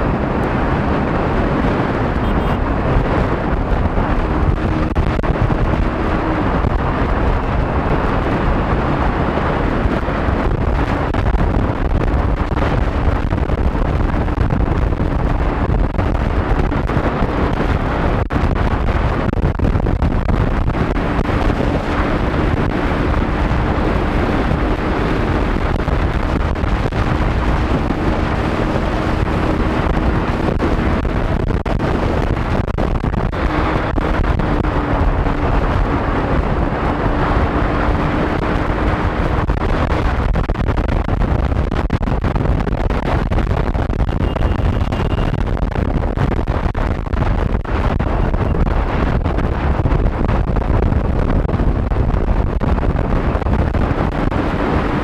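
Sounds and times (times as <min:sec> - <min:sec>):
motorcycle engine drone: 0:00.0 - 0:55.0
wind buffeting on microphone: 0:00.0 - 0:55.0.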